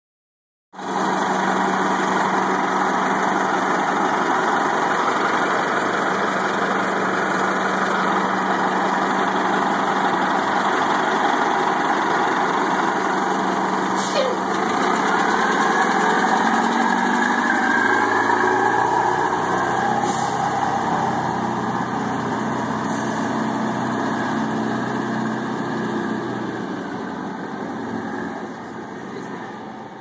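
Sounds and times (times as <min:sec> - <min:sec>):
bus engine idling: 0:00.8 - 0:30.0.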